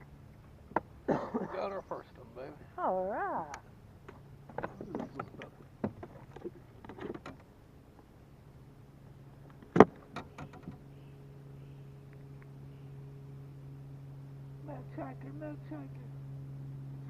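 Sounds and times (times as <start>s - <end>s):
electric motor hum: 3.3s - 17.0s.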